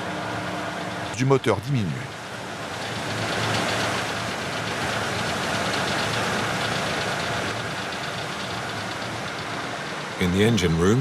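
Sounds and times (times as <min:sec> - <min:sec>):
tugboat engine running: 0:00.0 - 0:11.0.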